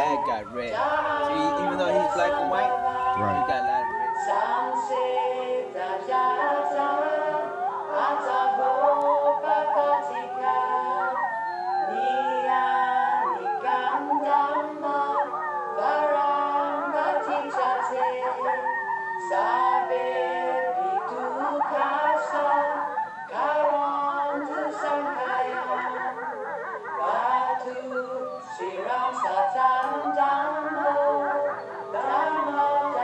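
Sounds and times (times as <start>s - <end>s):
voices singing held notes: 0.0s - 33.0s.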